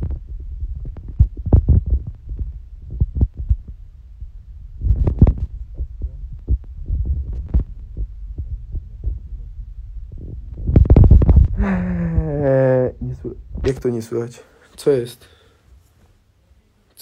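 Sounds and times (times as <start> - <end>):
microphone handling thumps: 0.0 - 14.0.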